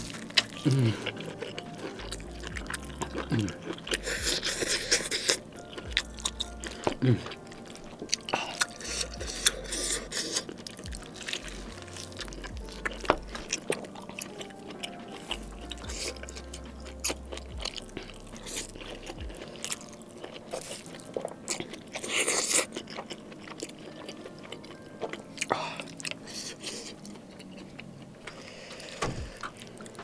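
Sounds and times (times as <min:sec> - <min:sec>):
chewing with wet mouth smacks: 0:00.0 - 0:30.0.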